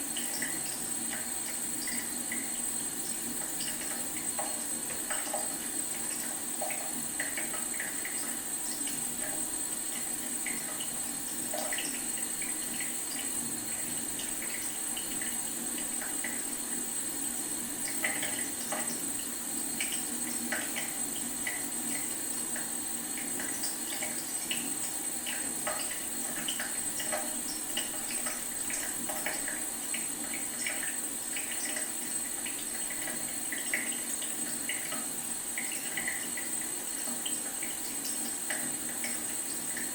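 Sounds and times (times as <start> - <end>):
faucet dripping: 0.0 - 39.9.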